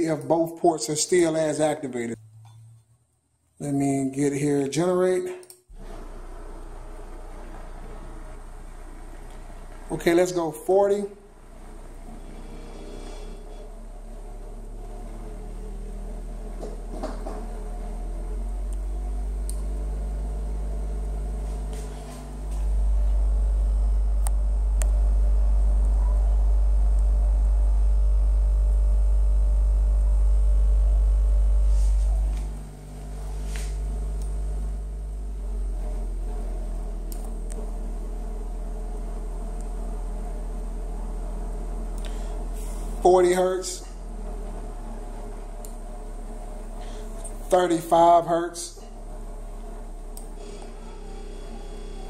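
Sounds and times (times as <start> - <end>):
low sine test tone: 1.7 - 3.6, 5.7 - 52.0.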